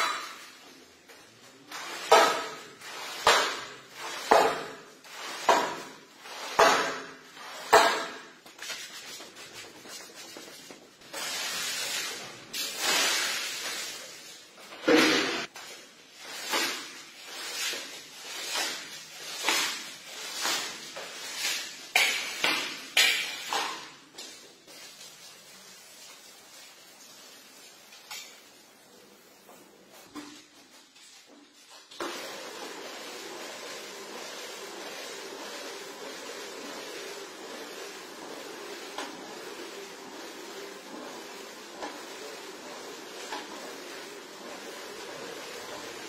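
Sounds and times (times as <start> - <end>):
squeegee pushing water on tiles: 0.0 - 46.0.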